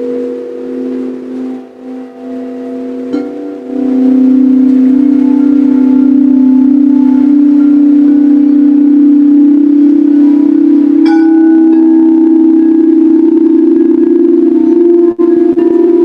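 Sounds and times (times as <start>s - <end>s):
singing bowl strike: 0.0s - 16.0s
singing bowls ringing: 0.0s - 16.0s.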